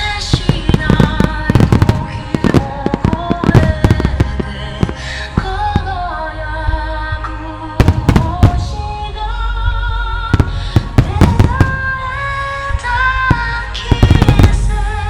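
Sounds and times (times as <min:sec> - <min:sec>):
fireworks bursting with bangs: 0:00.0 - 0:06.3, 0:07.7 - 0:09.5, 0:10.3 - 0:15.0
song playing: 0:00.0 - 0:15.0.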